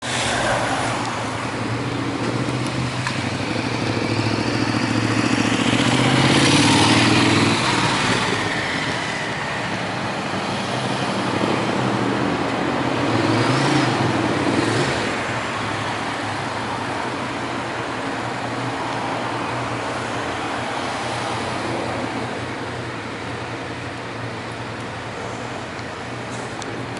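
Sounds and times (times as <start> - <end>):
road traffic: 0.0 - 26.9.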